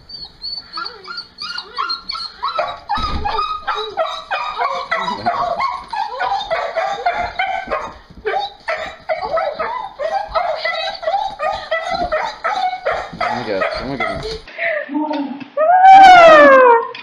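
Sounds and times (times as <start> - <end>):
dog whining and yipping: 0.0 - 14.5.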